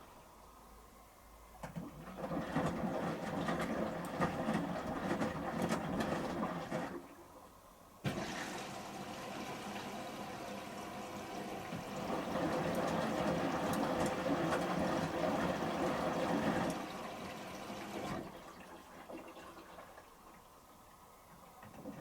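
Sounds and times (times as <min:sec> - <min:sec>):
water rushing into washing machine: 0:01.6 - 0:22.0.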